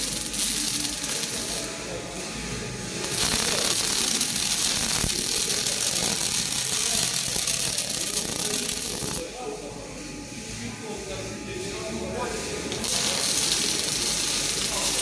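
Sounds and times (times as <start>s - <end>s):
welding arc crackling: 0.0s - 9.2s, 11.6s - 15.0s.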